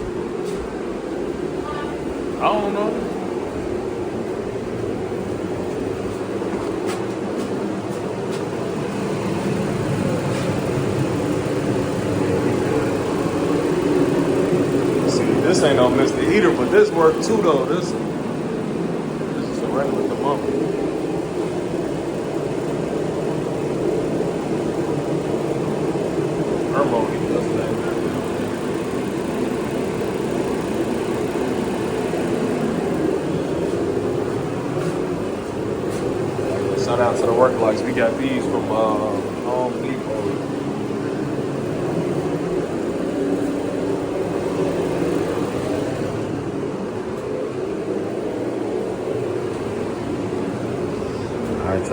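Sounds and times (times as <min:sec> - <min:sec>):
gas heater fan droning: 0:00.0 - 0:51.9.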